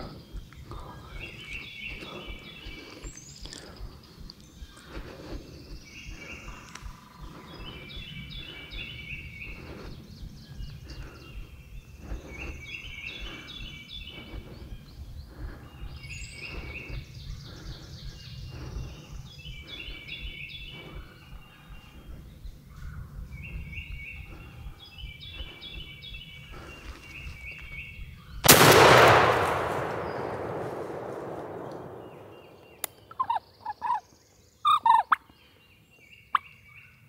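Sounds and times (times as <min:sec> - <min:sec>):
steady low rumble: 0:00.0 - 0:33.1
songbirds singing: 0:00.0 - 0:37.0.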